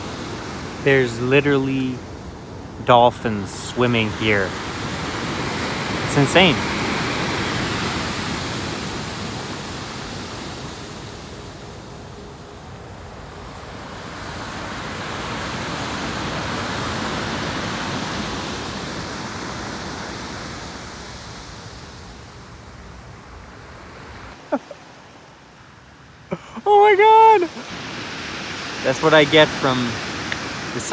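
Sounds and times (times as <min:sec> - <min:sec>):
ocean surf washing onto beach: 0:00.0 - 0:30.9.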